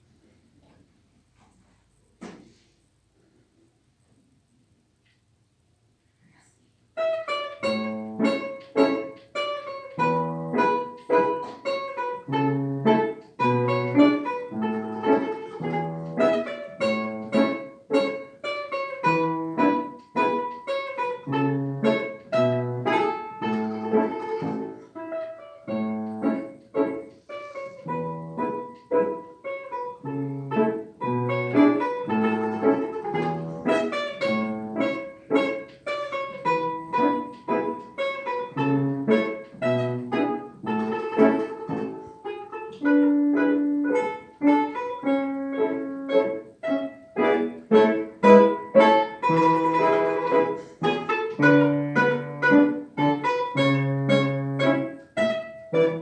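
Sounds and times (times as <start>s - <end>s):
solo piano piece: 6.9s - 56.0s.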